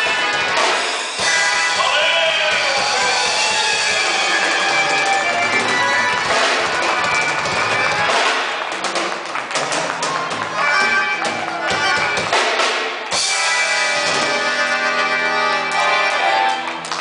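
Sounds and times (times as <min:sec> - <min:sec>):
band music with accordion: 0:00.0 - 0:17.0
drum kit: 0:00.0 - 0:17.0.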